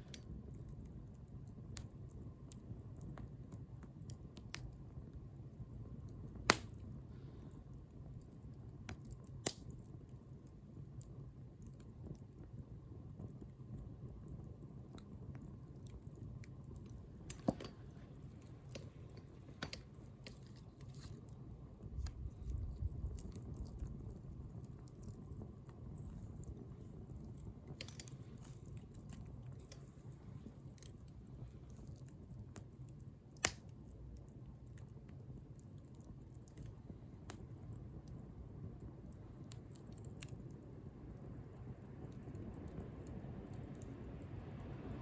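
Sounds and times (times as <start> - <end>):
bonfire burning rumble: 0.0 - 45.0
sharp pops from fire: 0.0 - 45.0
small crackles of fire: 0.0 - 45.0.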